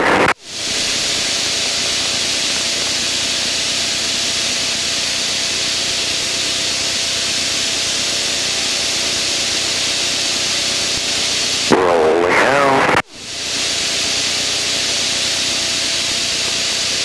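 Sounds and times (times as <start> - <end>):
wind and aircraft engine hiss: 0.0 - 17.0.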